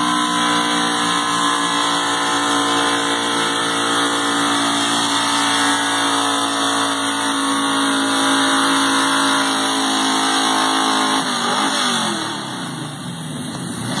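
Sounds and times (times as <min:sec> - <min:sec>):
truck engine at high revs: 0:00.0 - 0:14.0.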